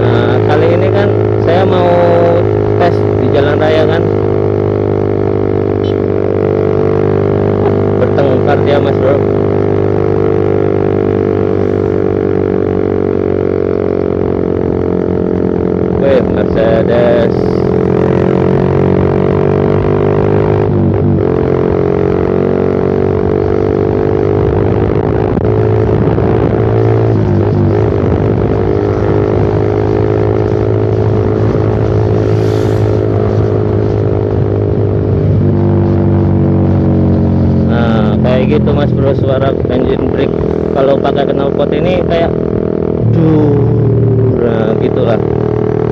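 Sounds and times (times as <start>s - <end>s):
motorcycle exhaust drone: 0.0s - 45.9s.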